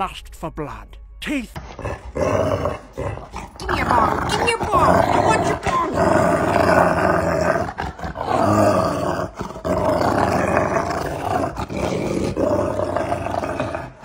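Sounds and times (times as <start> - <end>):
large dog growling in play: 1.7 - 14.0.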